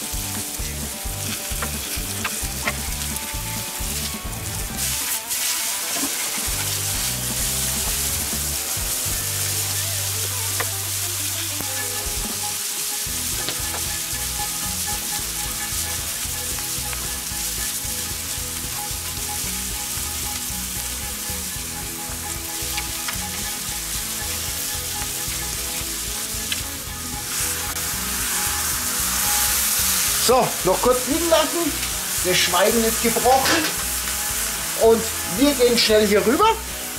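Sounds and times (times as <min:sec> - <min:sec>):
burgers sizzling on a griddle: 0:00.0 - 0:36.9.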